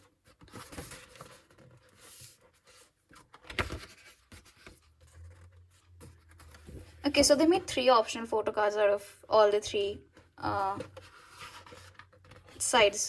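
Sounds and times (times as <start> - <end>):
paper pages rustling: 0.0 - 7.8, 10.1 - 13.0.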